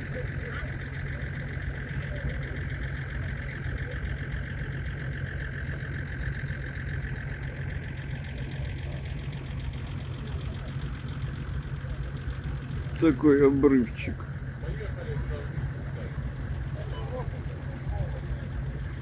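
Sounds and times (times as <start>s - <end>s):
pickup engine rumble: 0.0s - 19.0s
steady whine: 0.0s - 19.0s.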